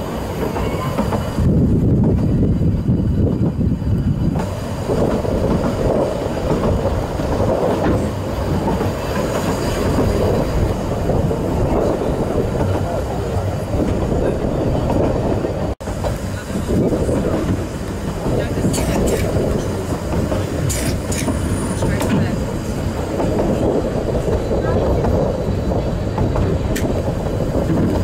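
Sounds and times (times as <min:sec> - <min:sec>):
train carriage rumble: 0:00.0 - 0:28.0
wheels clattering on rails: 0:04.2 - 0:28.0.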